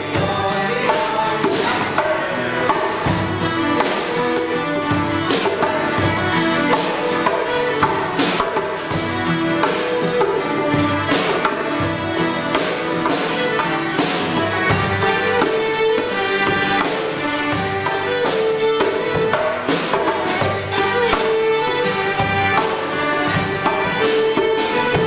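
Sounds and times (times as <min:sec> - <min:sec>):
acoustic guitar: 0:00.0 - 0:25.0
djembe and drum kit beat: 0:00.0 - 0:25.0
fiddles playing melody: 0:00.0 - 0:25.0.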